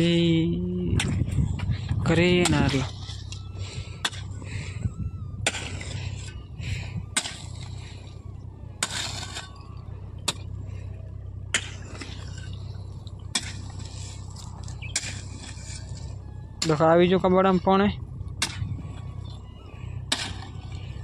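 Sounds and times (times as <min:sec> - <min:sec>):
steady low hum: 0:00.0 - 0:21.0
hoe scraping soil: 0:00.9 - 0:17.4, 0:18.4 - 0:21.0.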